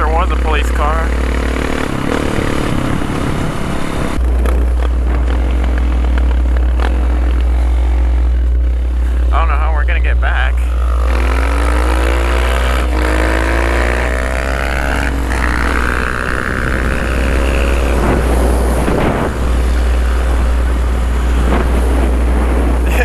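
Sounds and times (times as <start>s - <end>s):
wind buffeting microphone: 0.0s - 9.3s, 10.8s - 23.0s
dirt bike engine accelerating: 0.0s - 23.0s.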